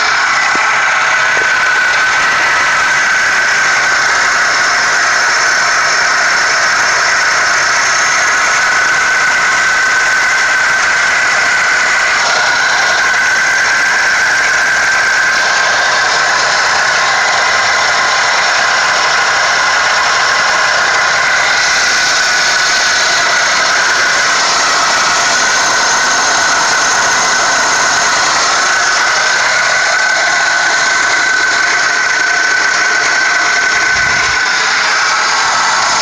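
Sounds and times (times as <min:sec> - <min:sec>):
car engine rattling: 0:00.0 - 0:36.0
high engine whine: 0:00.0 - 0:36.0.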